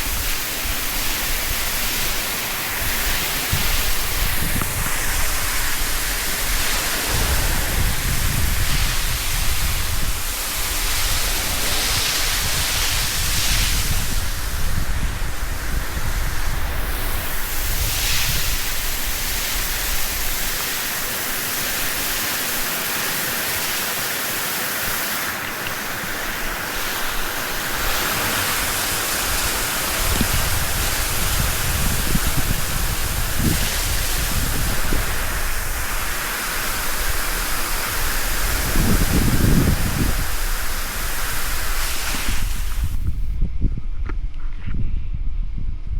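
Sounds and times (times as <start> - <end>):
hose spraying water on concrete: 0.0 - 43.4.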